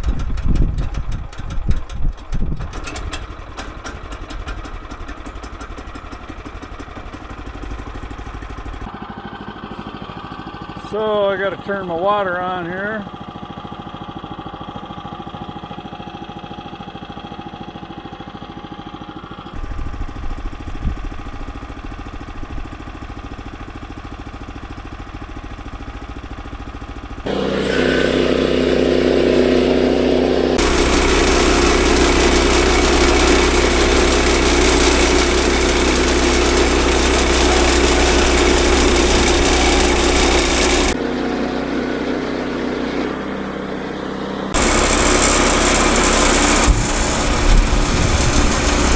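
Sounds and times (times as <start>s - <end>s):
sawmill gas engine running: 0.0s - 48.9s.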